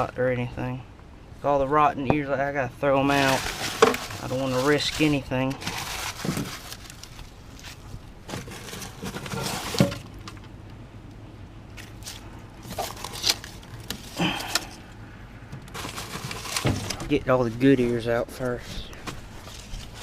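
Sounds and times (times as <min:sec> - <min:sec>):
rustling and scraping of corn ears: 0:02.5 - 0:10.6, 0:11.7 - 0:20.0.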